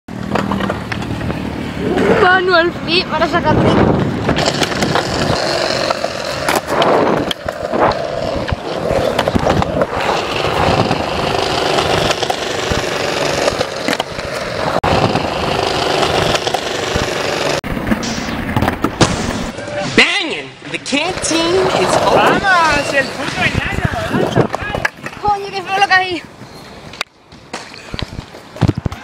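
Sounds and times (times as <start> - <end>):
skateboard clacking on ground: 0.1 - 2.1, 4.2 - 19.0, 21.1 - 26.1, 26.9 - 29.0
skateboard wheels rolling on concrete: 0.1 - 29.0.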